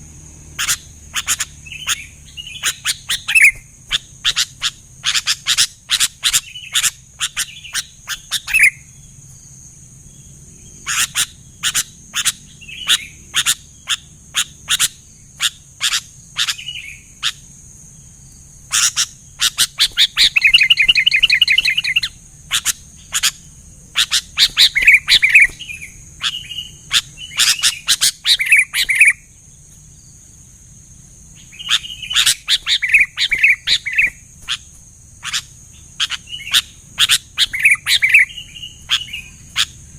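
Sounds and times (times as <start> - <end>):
bird chirping and warbling: 0.4 - 9.2, 10.1 - 30.6, 31.3 - 39.9.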